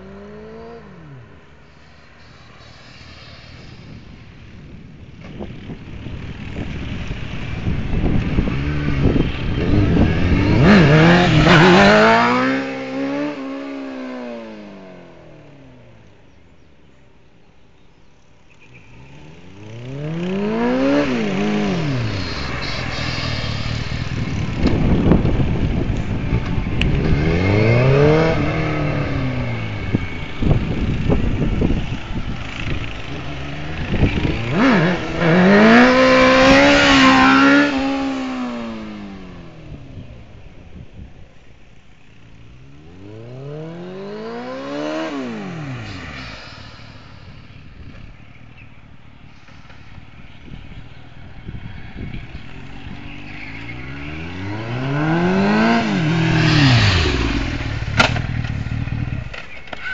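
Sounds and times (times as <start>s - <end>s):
motorcycle engine revving: 0.0s - 16.4s, 18.4s - 59.9s.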